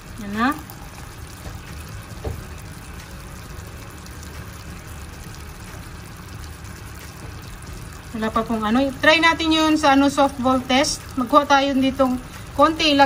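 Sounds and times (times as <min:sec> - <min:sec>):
syrup boiling with bubbling hiss: 0:00.0 - 0:13.0.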